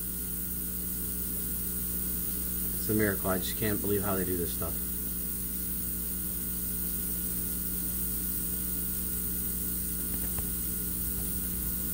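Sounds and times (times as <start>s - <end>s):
electrical hum: 0.0s - 11.9s.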